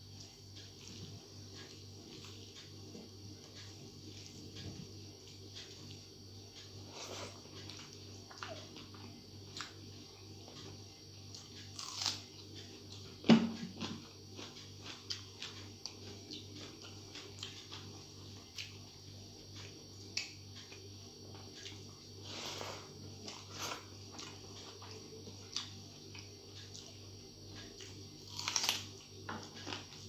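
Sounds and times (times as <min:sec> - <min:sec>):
steady low hum: 0:00.0 - 0:30.0
person chewing: 0:00.6 - 0:02.7, 0:03.4 - 0:13.1, 0:13.7 - 0:18.8, 0:19.5 - 0:30.0.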